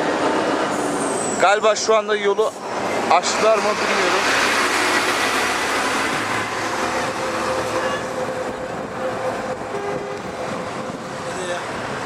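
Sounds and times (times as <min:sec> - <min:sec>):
heavy lorry traffic rumble: 0:00.0 - 0:12.0.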